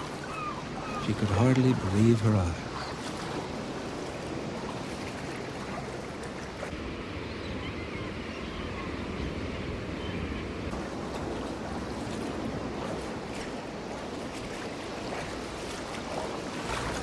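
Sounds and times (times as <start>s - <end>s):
ocean waves washing in: 0.0s - 17.0s.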